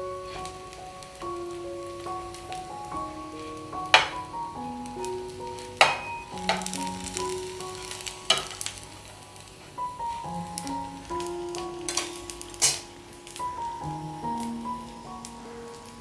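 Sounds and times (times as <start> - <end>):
food sizzling in pan: 0.0 - 16.0.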